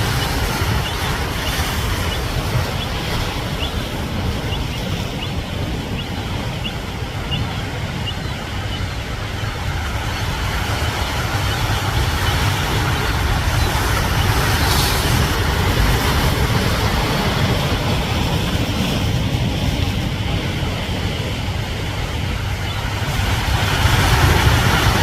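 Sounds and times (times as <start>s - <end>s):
ocean surf: 0.0s - 25.0s
wind buffeting microphone: 0.0s - 25.0s.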